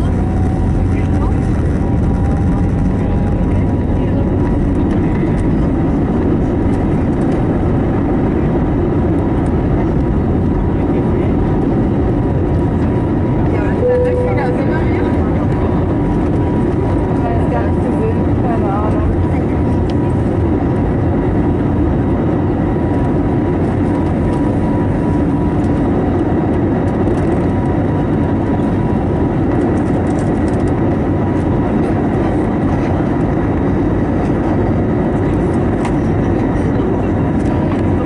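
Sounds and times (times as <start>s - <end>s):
airplane cabin roar: 0.0s - 38.0s
faint engine whine: 0.0s - 38.0s.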